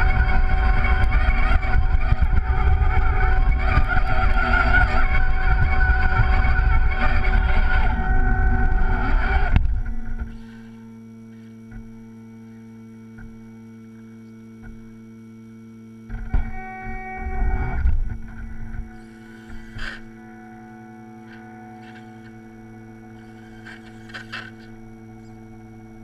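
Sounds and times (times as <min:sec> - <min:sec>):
electric motor whining: 0:00.0 - 0:26.0
faint steady hum: 0:00.0 - 0:26.0.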